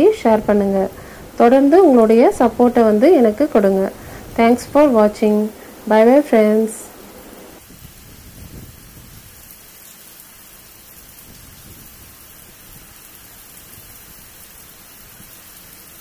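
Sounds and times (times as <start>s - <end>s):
rain on a wet brick rooftop: 0.0s - 16.0s.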